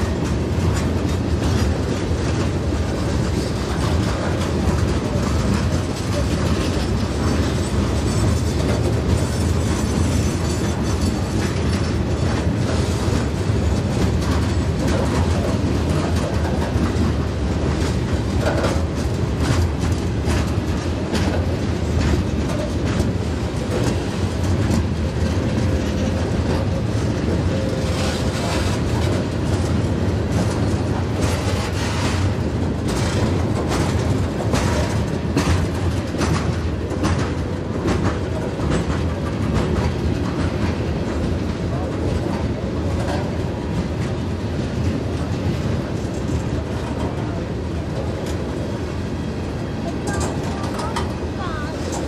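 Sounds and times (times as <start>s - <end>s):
freight train rumbling: 0.0s - 52.0s
wheels clicking over rail joints: 0.0s - 52.0s.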